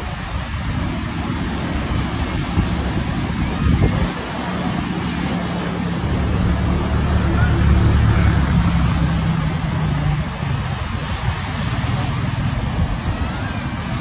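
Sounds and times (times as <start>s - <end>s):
rough sea surf: 0.0s - 14.0s
wind on microphone: 0.0s - 14.0s.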